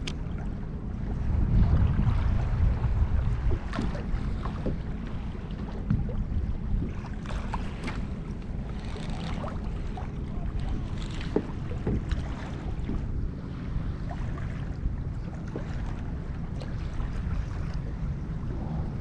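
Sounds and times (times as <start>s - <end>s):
small waves lapping against hull: 0.0s - 19.0s
wind buffeting microphone: 0.0s - 19.0s.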